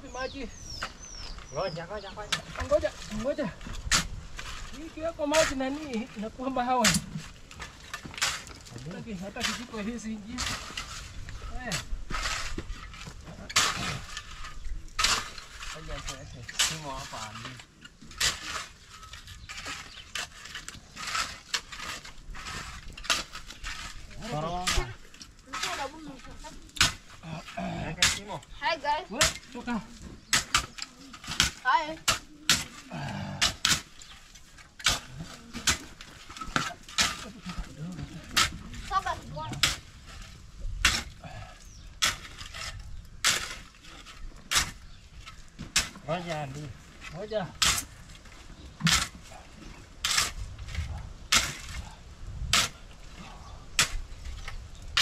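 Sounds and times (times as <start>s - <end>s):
shovels scraping gravel: 0.1s - 55.0s.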